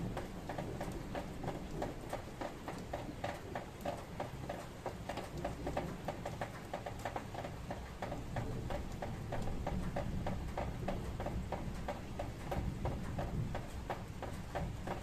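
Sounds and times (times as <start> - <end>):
rain drips on hard surface: 0.0 - 15.0.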